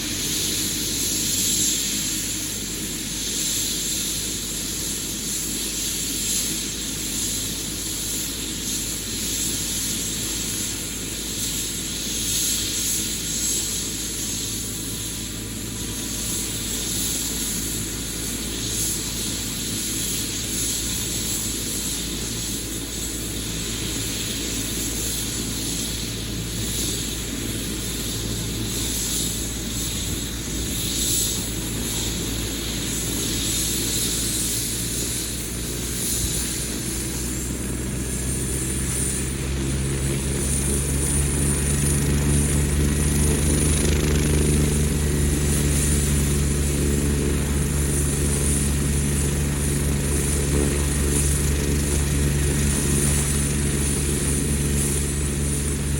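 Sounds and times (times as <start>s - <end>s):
helicopter rotor noise: 0.0s - 55.9s
helicopter turbine whine: 0.0s - 55.9s.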